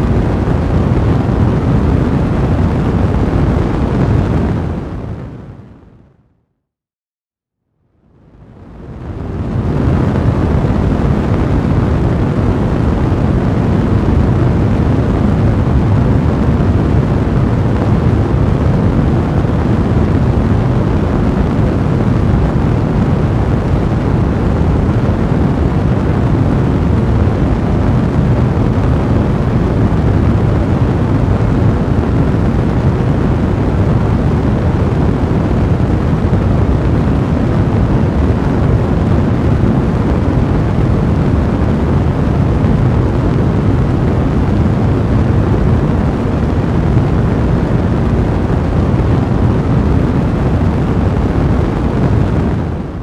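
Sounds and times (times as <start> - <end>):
fire burning in fireplace: 8.6 - 52.9.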